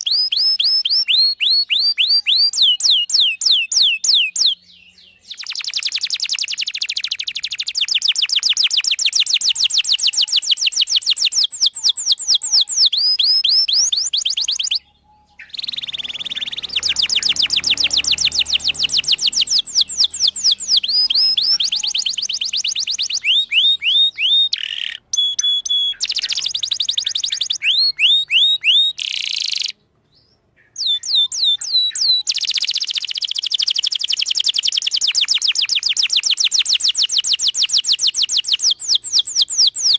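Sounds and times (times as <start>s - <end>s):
canary singing trilled chirps: 0.0s - 39.9s.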